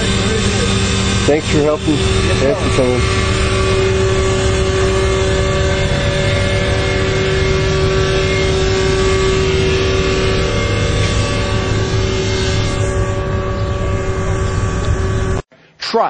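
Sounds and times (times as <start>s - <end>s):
engine running steadily: 0.0s - 15.5s.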